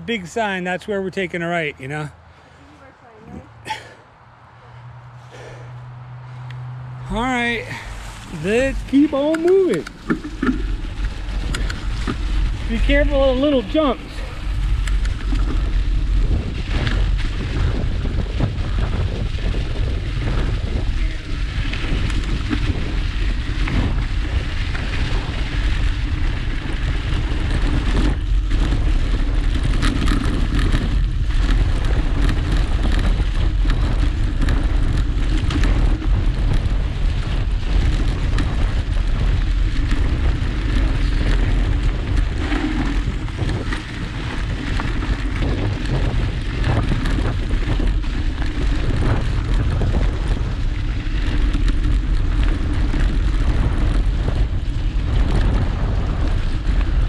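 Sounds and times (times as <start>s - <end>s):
tyres crackling through leaves: 0.0s - 57.0s
wind on microphone: 5.0s - 57.0s
bike clicks and knocks: 7.9s - 57.0s.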